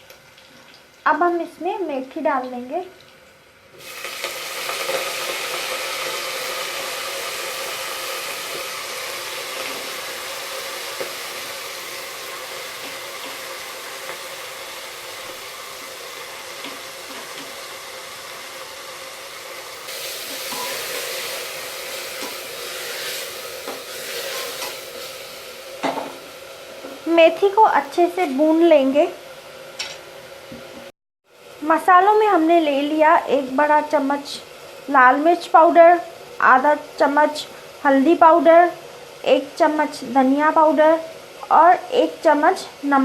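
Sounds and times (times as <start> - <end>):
leaves sizzling in hot oil: 0.0 - 30.4, 31.3 - 43.0.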